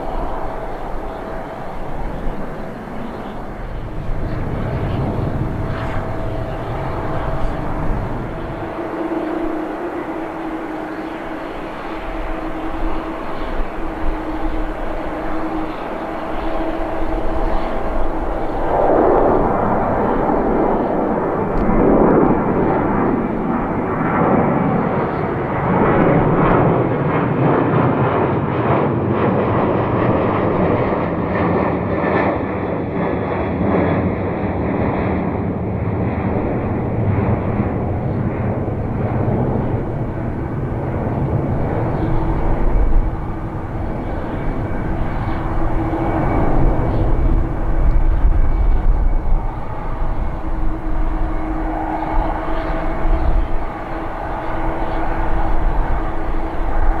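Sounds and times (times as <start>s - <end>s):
airliner engines running: 0.0s - 57.0s.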